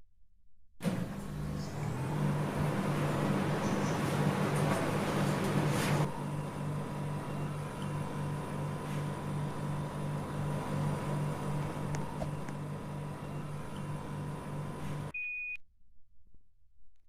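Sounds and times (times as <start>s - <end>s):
air conditioner pulsing hum: 0.8s - 15.1s.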